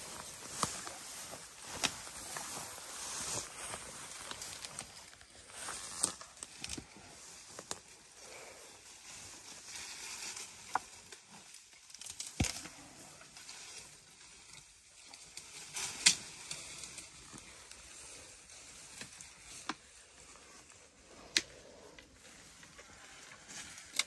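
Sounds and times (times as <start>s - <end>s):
dry brush crackling and rustling: 0.0s - 24.0s.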